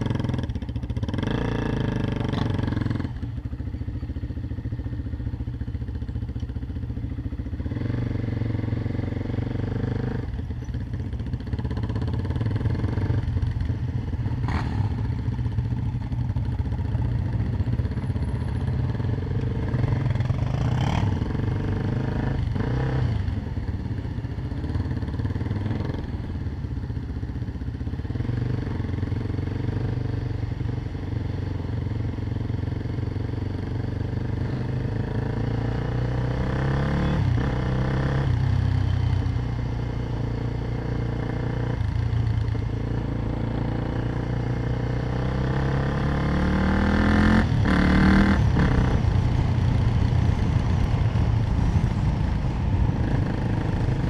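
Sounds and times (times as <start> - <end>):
motorbike engine at low revs: 0.0 - 54.0.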